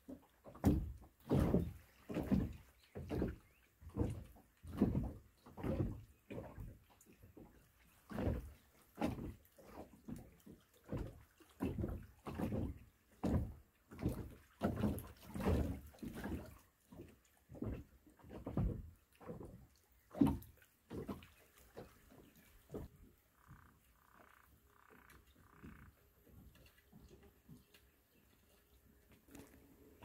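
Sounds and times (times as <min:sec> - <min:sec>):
small waves lapping: 0:00.0 - 0:30.0.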